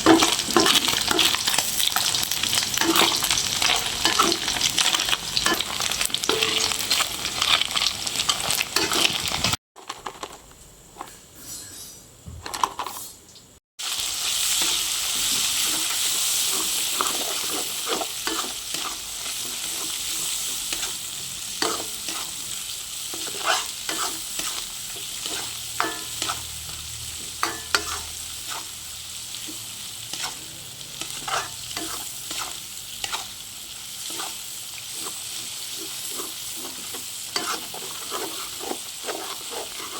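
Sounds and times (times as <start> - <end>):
fish sizzling in hot oil: 0.0 - 9.6, 13.8 - 39.9
spatula clicking and scraping pan: 0.0 - 10.4, 14.5 - 39.9.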